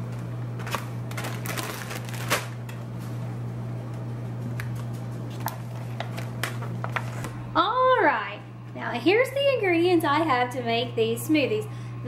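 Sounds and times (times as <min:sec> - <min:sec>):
dishwasher humming: 0:00.0 - 0:12.0.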